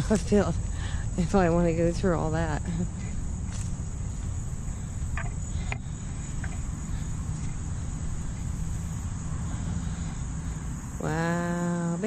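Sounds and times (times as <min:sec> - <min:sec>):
low rumble: 0:00.0 - 0:11.6
high-pitched insect trilling: 0:00.1 - 0:12.0.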